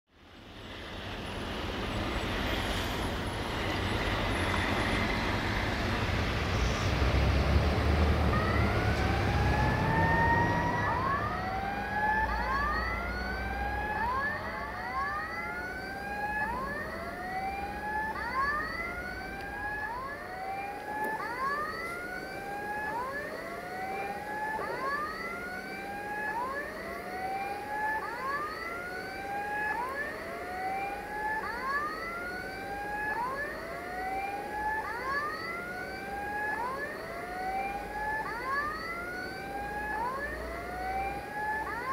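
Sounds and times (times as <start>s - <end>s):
electronic siren wailing: 2.0s - 41.9s.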